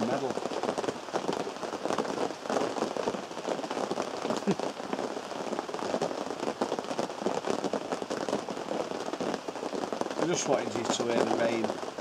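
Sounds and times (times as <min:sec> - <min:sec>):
rain pattering on fabric tarp: 0:00.0 - 0:12.0.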